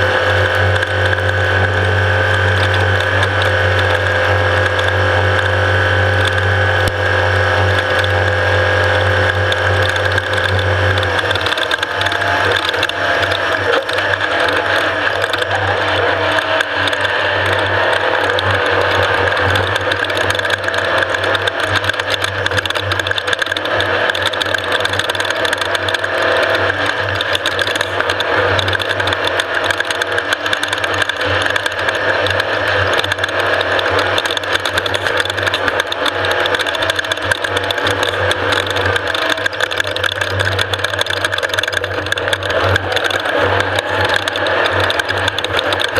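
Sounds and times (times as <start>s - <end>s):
mechanical rattle: 0.0s - 45.9s
vehicle engine drone: 0.0s - 45.9s.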